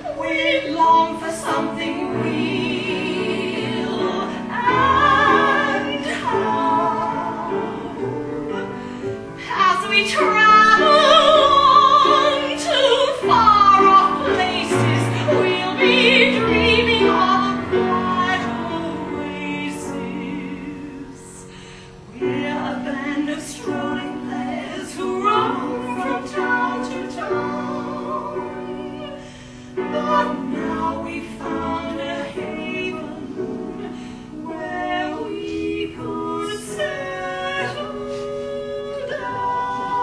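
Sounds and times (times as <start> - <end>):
women singing in harmony: 0.0 - 40.0.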